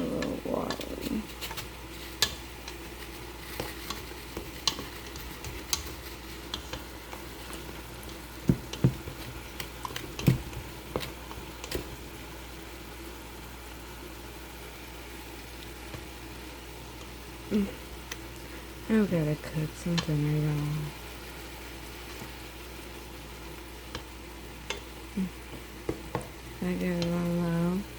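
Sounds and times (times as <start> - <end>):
cooking food sizzling: 0.0 - 27.9.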